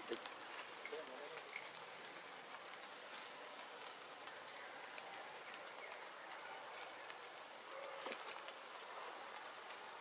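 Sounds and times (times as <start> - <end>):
rain on foliage: 0.0 - 10.0.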